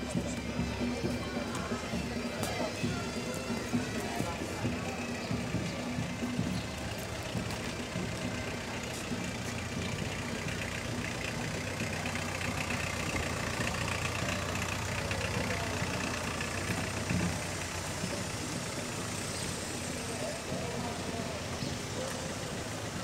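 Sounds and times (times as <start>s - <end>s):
small tractor engine running: 0.0s - 23.0s
van engine passing: 0.0s - 23.0s.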